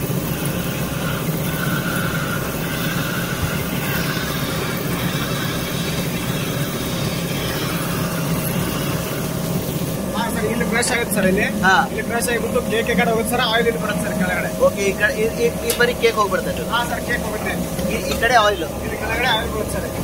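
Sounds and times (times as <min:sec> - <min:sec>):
machinery low drone: 0:00.0 - 0:20.0.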